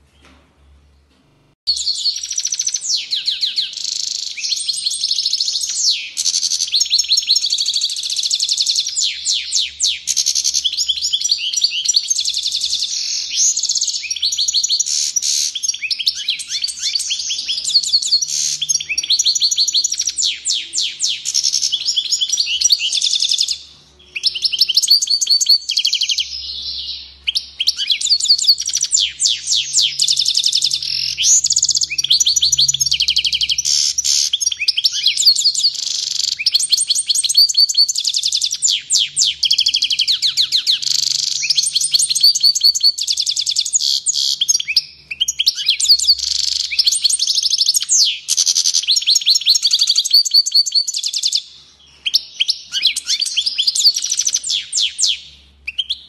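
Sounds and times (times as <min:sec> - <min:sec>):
goldfinch twittering song: 0:01.7 - 0:51.4.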